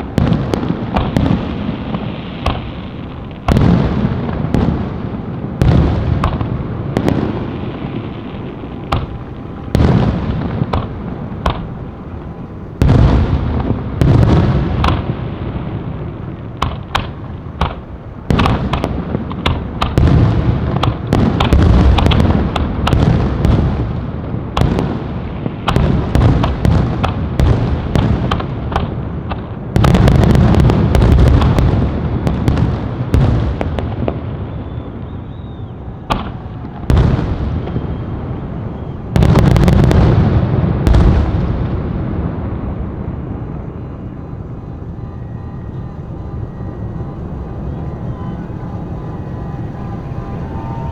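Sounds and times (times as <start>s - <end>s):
fireworks booming: 0.0s - 50.9s
fireworks cracking and crackling: 0.0s - 50.9s.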